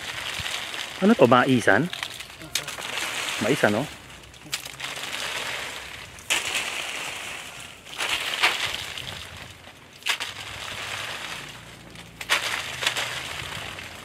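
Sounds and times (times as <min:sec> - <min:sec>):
dry corn leaves rustling: 0:00.0 - 0:14.0.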